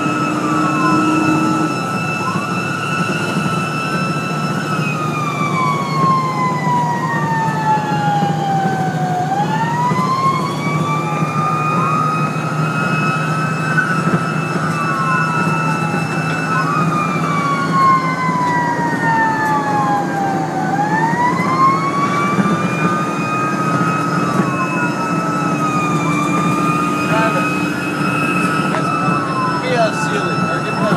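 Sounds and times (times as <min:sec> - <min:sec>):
fire engine siren wailing: 0:00.0 - 0:30.9
second siren sweeping: 0:00.0 - 0:30.9
truck engine drone: 0:00.0 - 0:30.9.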